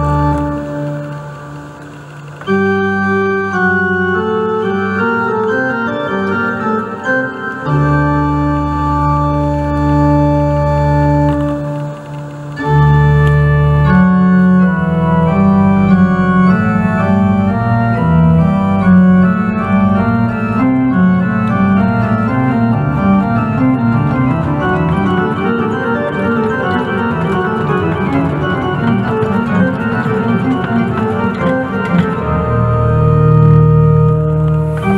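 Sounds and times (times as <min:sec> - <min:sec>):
organ playing: 0:00.0 - 0:34.9.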